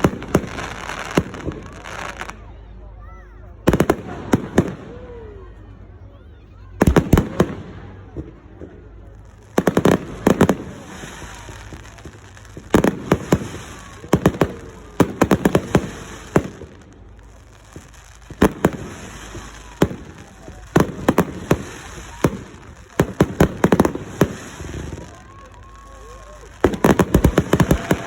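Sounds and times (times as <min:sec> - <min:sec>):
fireworks bangs and cracks: 0:00.0 - 0:02.5, 0:03.5 - 0:05.4, 0:06.8 - 0:28.0.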